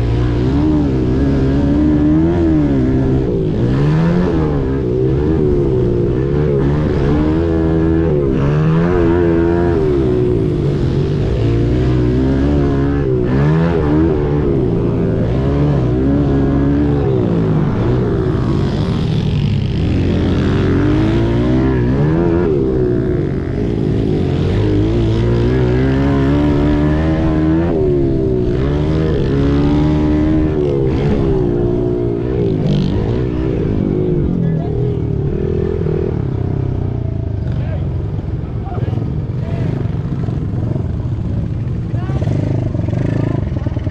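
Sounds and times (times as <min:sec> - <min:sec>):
pit bike engines revving: 0:00.0 - 0:43.9.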